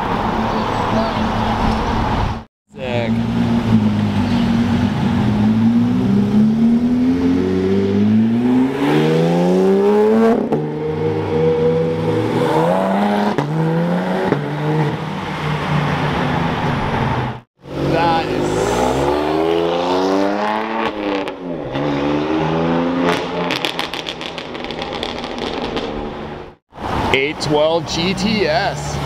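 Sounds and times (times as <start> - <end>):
sports car engines accelerating: 2.8 - 26.2.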